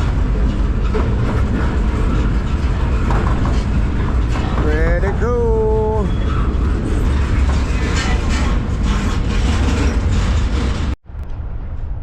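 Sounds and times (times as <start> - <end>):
freight train rumbling and rattling: 0.0 - 12.0.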